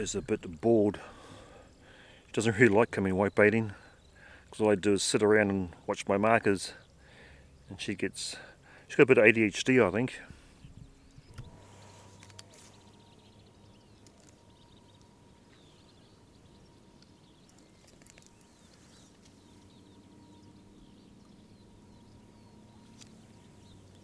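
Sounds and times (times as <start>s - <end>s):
distant birds chirping: 0.0s - 24.0s
faint steady hum: 0.0s - 24.0s.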